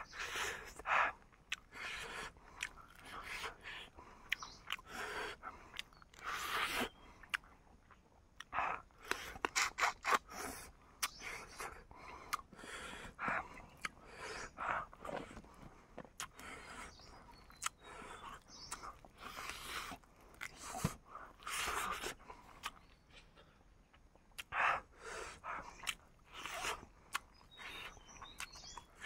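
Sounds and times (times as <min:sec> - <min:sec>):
person chewing food: 0:00.0 - 0:29.0.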